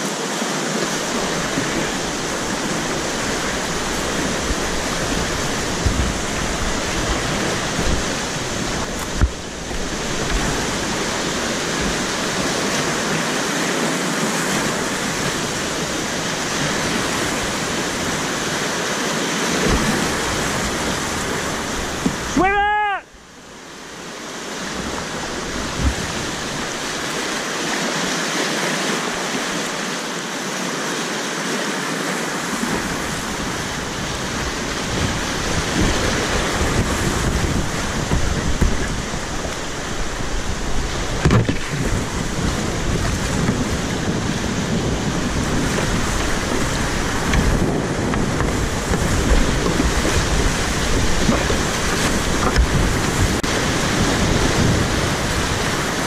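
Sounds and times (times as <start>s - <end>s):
paddle splashes: 0.0s - 56.0s
whitewater rapids roaring: 0.0s - 56.0s.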